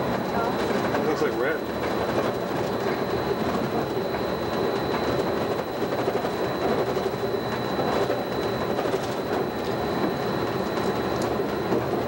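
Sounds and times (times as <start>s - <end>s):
monorail running hum: 0.0s - 12.0s.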